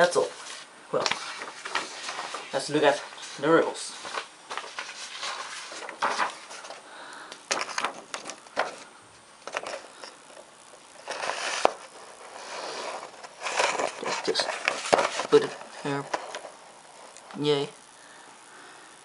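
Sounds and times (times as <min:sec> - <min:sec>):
paper rustling and crackling: 0:00.0 - 0:06.9, 0:07.5 - 0:17.2.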